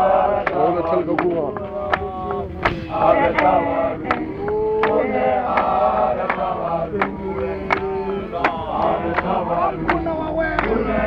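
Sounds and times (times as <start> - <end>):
men singing hymn in harmony: 0.0 - 11.0
hand claps: 0.4 - 11.0.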